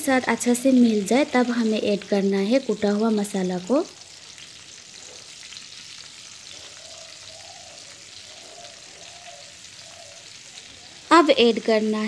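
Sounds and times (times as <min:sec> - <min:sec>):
olives sizzling in oil: 0:00.0 - 0:12.0.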